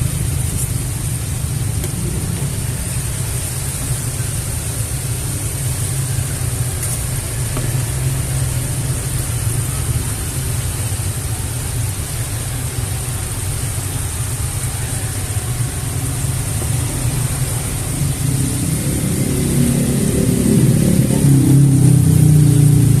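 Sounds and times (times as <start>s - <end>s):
low rumble with hiss: 0.0s - 23.0s.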